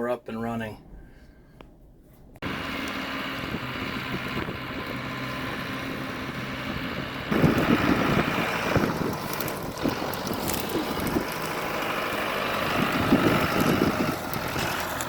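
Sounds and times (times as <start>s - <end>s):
vehicle engine running: 2.4s - 15.0s
wind buffeting microphone: 2.4s - 15.0s.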